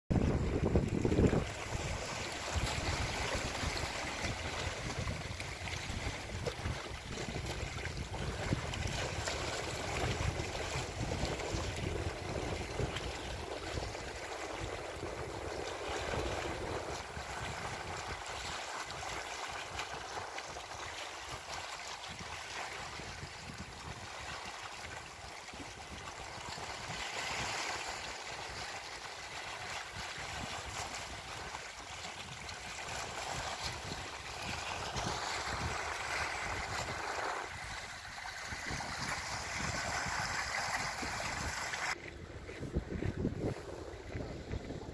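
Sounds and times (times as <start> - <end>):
lake water lapping at shore: 0.1 - 44.9
wind rumble on microphone: 0.1 - 44.9.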